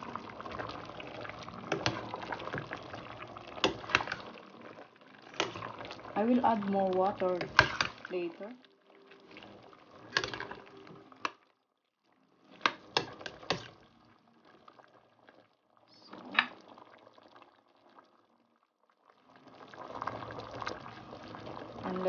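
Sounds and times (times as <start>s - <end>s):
soup bubbling in a pot: 0.0s - 22.0s.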